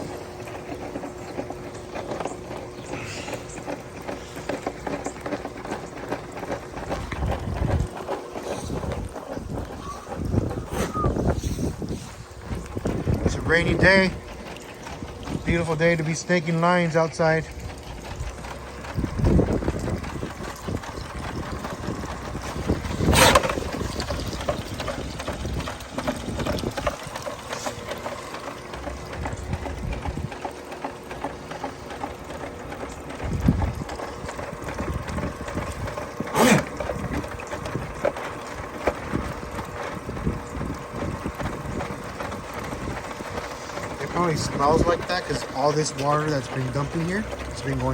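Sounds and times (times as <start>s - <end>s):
motorized drain snake running: 0.0s - 47.9s.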